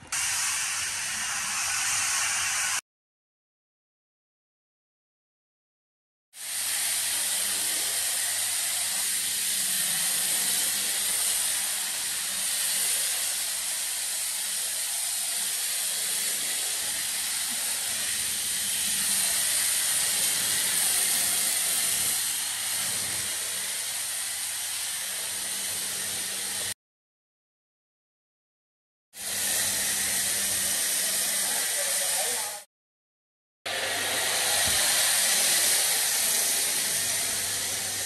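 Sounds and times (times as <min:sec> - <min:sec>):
foam lance spraying hiss: 0:00.1 - 0:02.8, 0:06.4 - 0:26.8, 0:29.2 - 0:32.6, 0:33.8 - 0:38.0.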